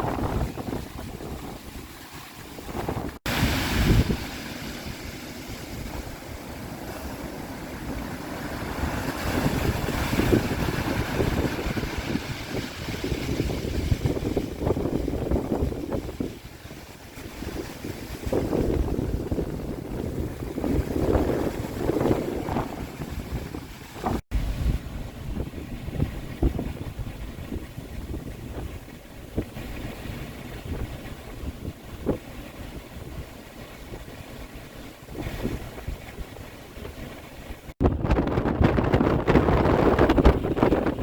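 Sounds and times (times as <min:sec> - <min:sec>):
storm wind buffeting microphone: 0:00.0 - 0:41.0.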